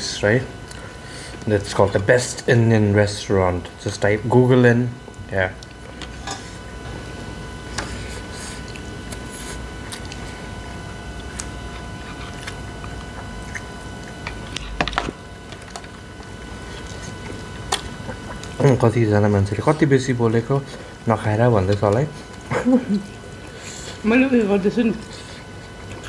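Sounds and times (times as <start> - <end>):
low room hum: 0.0 - 26.0
people chewing: 5.0 - 26.0.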